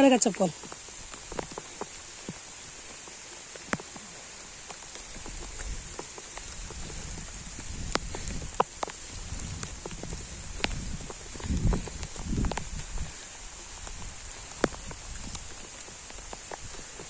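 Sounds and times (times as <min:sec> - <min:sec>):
steady hiss: 0:00.0 - 0:17.0
light taps and ticks: 0:00.3 - 0:17.0.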